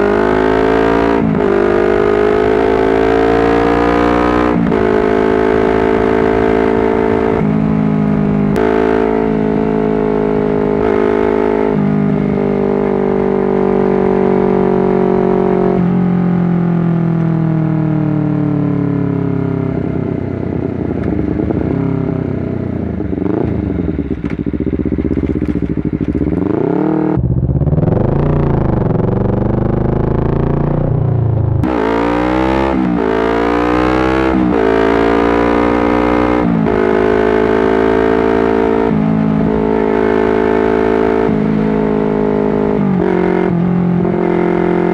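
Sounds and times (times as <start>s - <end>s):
motorcycle engine shifting gears: 0.0s - 17.6s, 19.4s - 44.9s.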